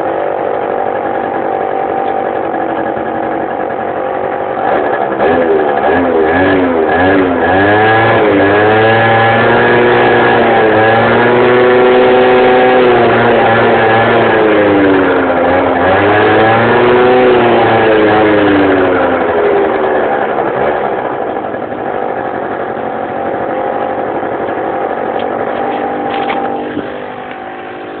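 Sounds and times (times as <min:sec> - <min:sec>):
scooter engine revving: 0:00.0 - 0:28.0.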